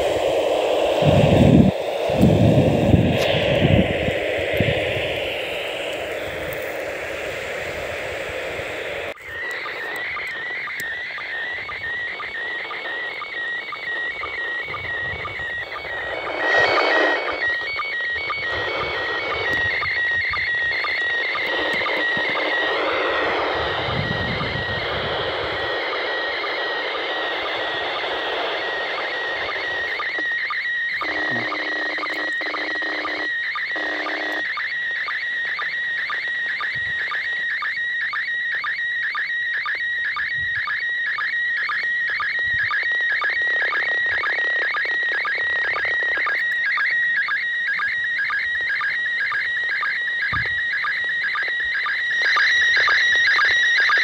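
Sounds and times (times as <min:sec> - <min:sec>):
radio static hiss: 0:00.0 - 0:54.0
warbling radio picture signal: 0:00.0 - 0:54.0.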